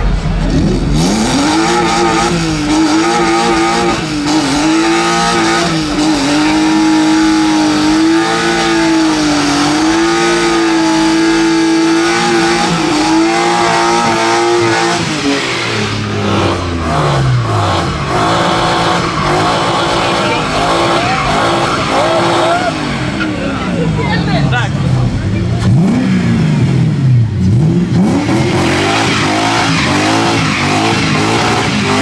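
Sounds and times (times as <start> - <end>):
spinning tyres hissing: 0.0 - 25.8, 26.6 - 32.0
car engine at high revs: 0.0 - 32.0.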